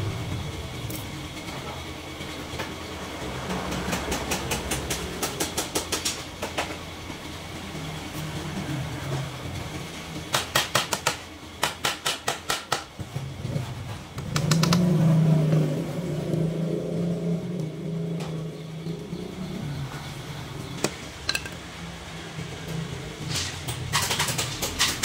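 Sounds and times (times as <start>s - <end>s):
low motor hum: 0.0s - 10.4s, 13.0s - 23.9s.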